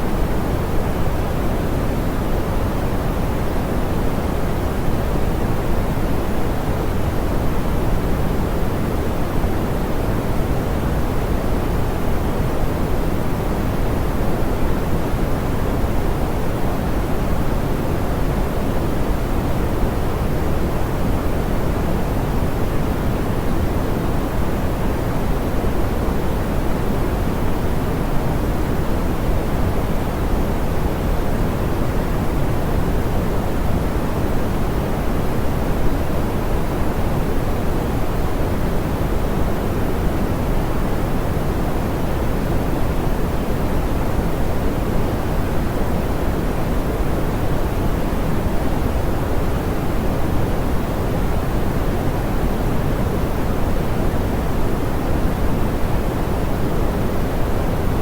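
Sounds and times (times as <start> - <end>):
soft pink noise hiss: 0.0 - 58.0.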